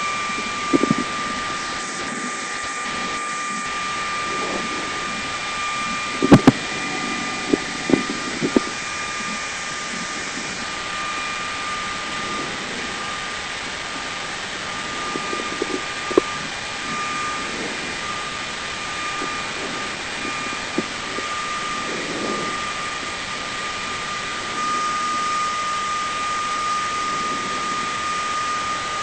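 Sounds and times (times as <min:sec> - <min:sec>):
whirring hiss with high whine: 0:00.0 - 0:29.0.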